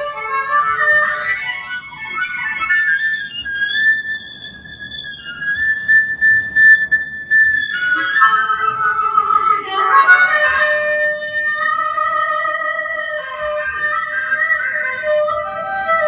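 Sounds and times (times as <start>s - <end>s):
harmonica playing: 0.0s - 16.0s.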